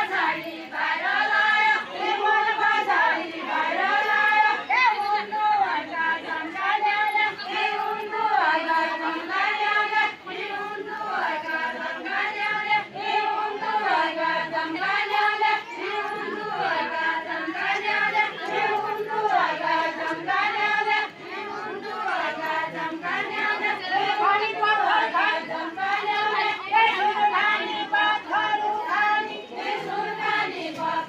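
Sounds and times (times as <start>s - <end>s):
group singing folk song: 0.0s - 31.0s.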